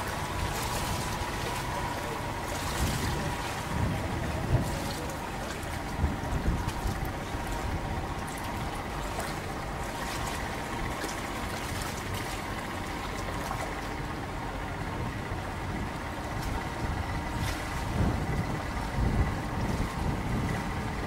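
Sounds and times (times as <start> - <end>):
faint motor hum: 0.0 - 21.0
light water splashes: 0.0 - 21.0
water washing around boat: 0.0 - 21.0
wind: 0.0 - 21.0.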